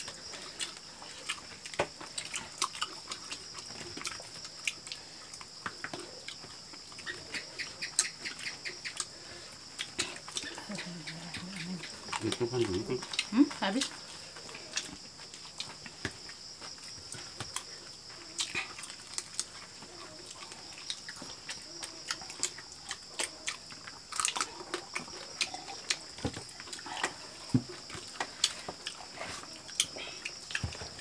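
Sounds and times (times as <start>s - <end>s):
crickets shrilling: 0.0s - 31.0s
people chewing and lip smacking: 0.0s - 31.0s.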